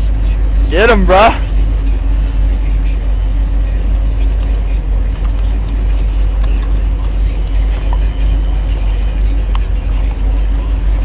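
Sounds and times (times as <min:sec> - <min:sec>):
boat engine rumbling: 0:00.0 - 0:11.0
faint steady hum: 0:00.0 - 0:11.0.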